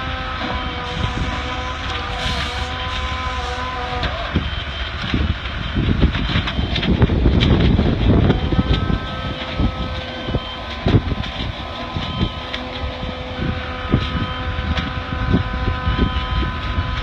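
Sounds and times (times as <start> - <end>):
fire rumbling: 0.0 - 17.0
fire popping and crackling: 0.2 - 17.0.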